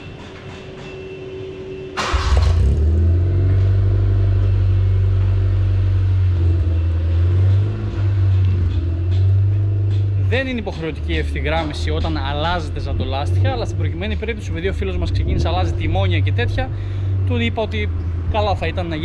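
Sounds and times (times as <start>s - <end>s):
car engine starting and idling: 2.0s - 19.0s.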